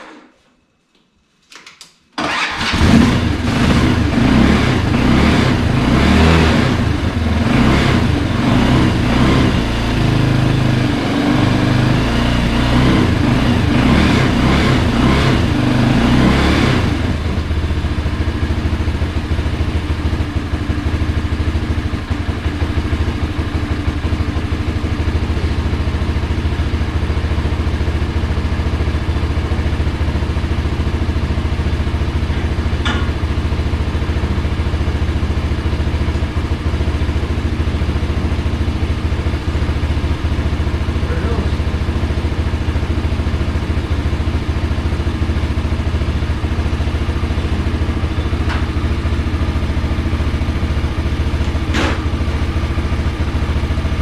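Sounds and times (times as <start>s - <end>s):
atv engine running: 2.2s - 54.0s.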